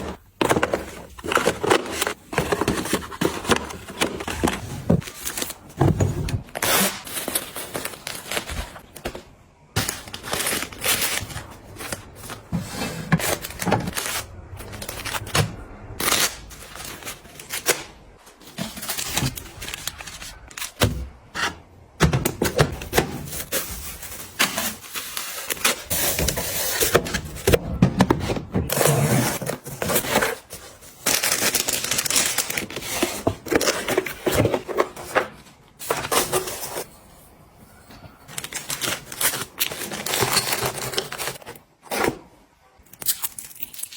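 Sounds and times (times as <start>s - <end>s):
packaging scraping and crinkling: 0.0s - 21.7s, 22.4s - 37.1s, 38.0s - 42.3s.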